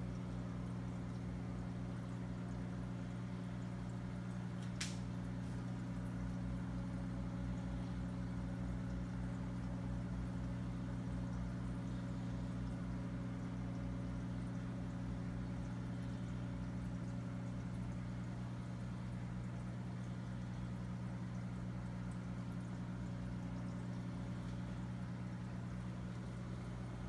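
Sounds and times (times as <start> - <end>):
aquarium air pump humming: 0.0 - 27.0.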